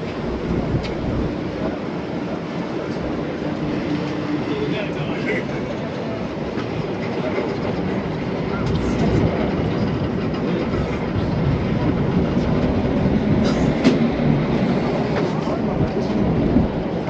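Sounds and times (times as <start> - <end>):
train car rumbling: 0.0 - 17.0.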